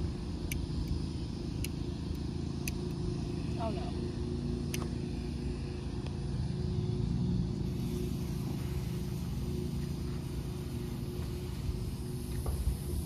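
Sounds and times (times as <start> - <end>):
motor running with low hum: 0.0 - 13.0.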